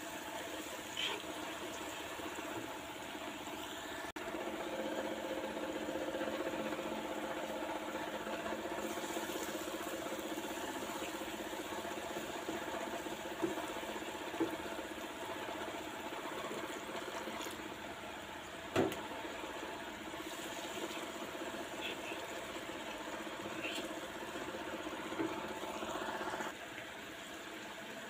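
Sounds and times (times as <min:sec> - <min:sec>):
food frying in oil: 0:00.0 - 0:28.0
steady mechanical hum: 0:00.0 - 0:28.0.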